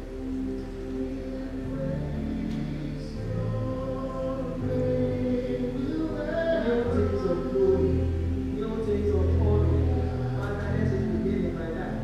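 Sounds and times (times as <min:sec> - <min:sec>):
held chords: 0:00.0 - 0:12.0
low sustained bass: 0:00.0 - 0:12.0
voices singing: 0:00.0 - 0:12.0.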